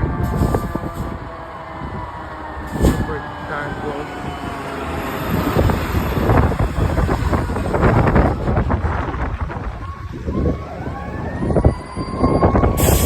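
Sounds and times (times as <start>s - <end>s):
diesel engine rumbling: 0.0s - 13.0s
rising siren: 0.0s - 13.0s
wind buffeting microphone: 0.0s - 13.0s.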